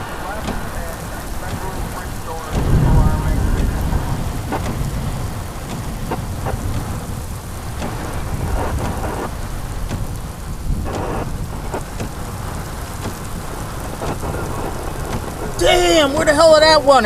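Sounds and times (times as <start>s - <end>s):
low rumble of thunder: 0.0s - 16.1s
rain pouring down: 0.0s - 17.0s
raindrops tapping close by: 0.0s - 17.0s.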